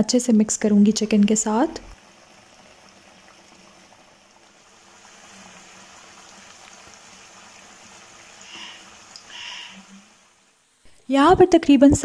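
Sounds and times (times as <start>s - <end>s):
gravy bubbling in a wok: 0.3s - 10.8s.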